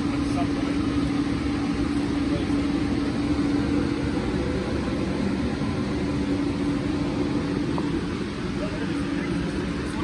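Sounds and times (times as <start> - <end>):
ventilation fan humming: 0.0 - 10.0.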